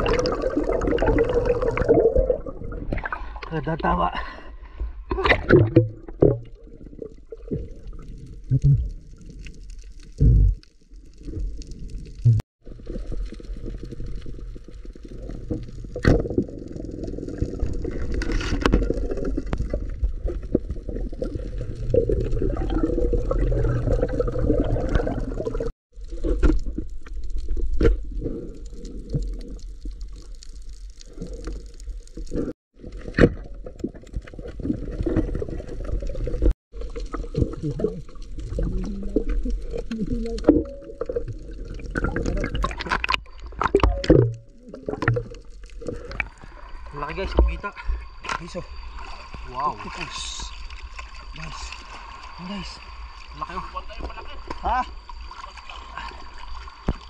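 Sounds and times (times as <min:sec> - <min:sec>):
water sloshing underwater: 0:00.0 - 0:03.8, 0:04.4 - 0:57.0.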